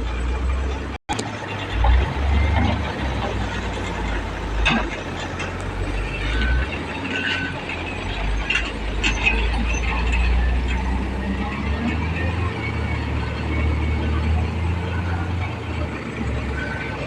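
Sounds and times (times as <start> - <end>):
knocks and rattles: 0.0 - 17.0
truck engine rumbling: 0.0 - 17.0.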